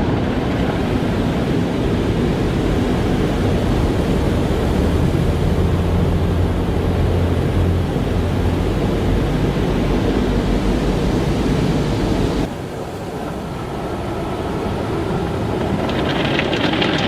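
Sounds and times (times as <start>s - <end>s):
low motor hum: 0.0s - 17.0s
rush of water and machinery: 0.0s - 17.0s.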